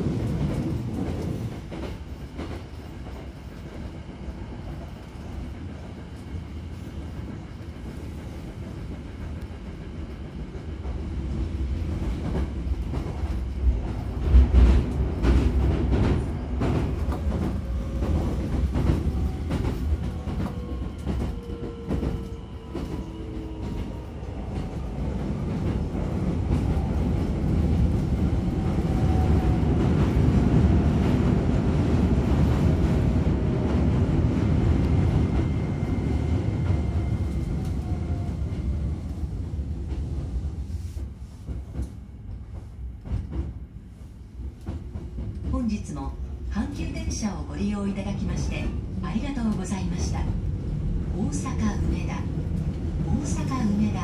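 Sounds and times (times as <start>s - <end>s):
train low rumble inside carriage: 0.0s - 54.0s.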